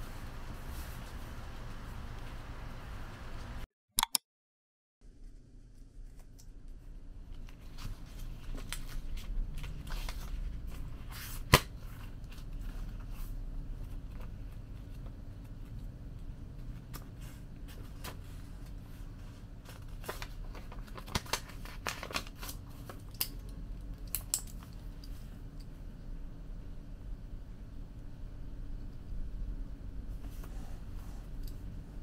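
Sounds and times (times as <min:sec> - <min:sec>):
low steady hum: 0:05.0 - 0:32.0.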